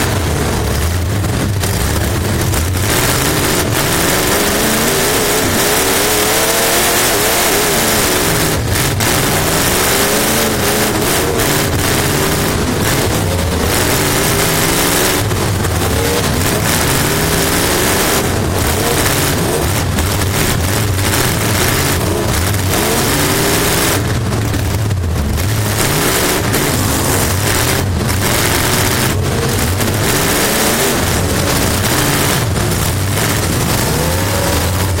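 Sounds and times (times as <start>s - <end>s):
race car engine revving: 0.0s - 35.0s
wind and road noise: 0.0s - 35.0s.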